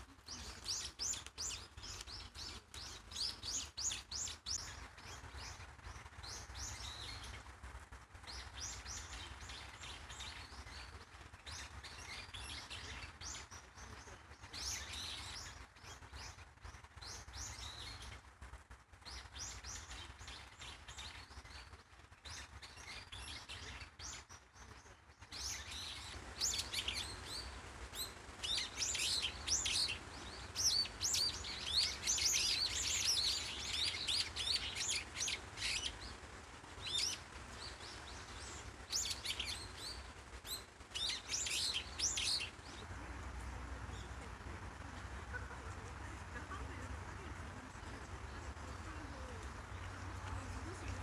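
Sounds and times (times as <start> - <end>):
faint low rumble: 0.0 - 51.0
small birds chirping: 0.0 - 51.0.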